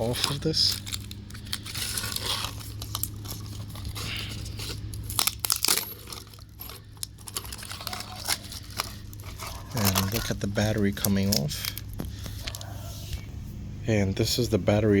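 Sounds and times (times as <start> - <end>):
battery crackling and tearing loose: 0.0 - 12.7.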